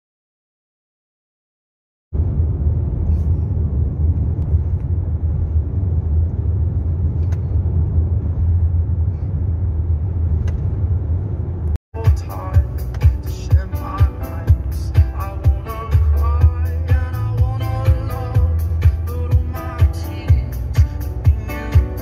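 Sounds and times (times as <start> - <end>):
car engine and road noise: 2.1 - 22.0.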